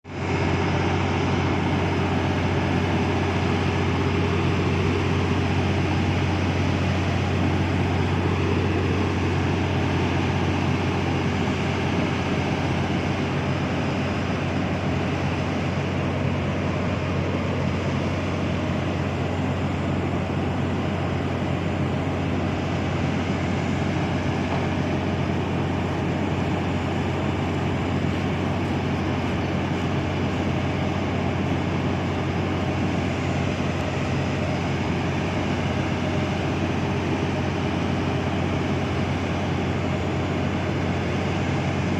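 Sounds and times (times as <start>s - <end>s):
ship diesel engine humming: 0.0s - 41.9s.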